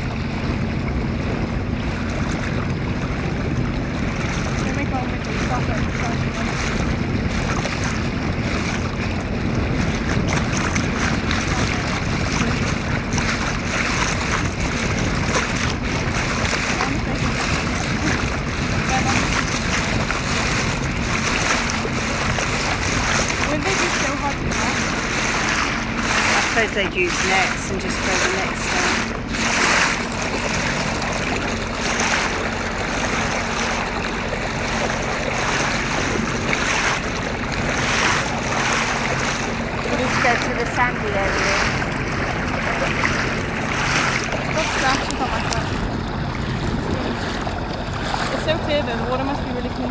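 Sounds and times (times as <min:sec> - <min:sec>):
low hum: 0:00.0 - 0:49.9
water lapping around a boat: 0:00.0 - 0:49.9
wind buffeting microphone: 0:00.0 - 0:49.9.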